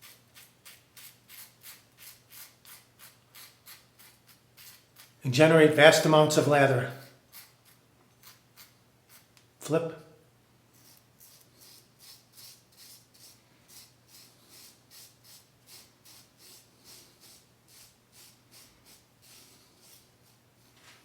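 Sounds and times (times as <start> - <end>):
razor scraping stubble: 0.0 - 5.2, 6.9 - 9.4, 10.8 - 20.9.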